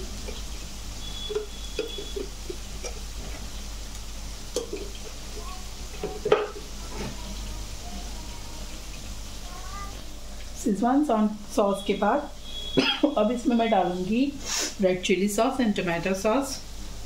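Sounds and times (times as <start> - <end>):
low sizzle: 0.0 - 17.0.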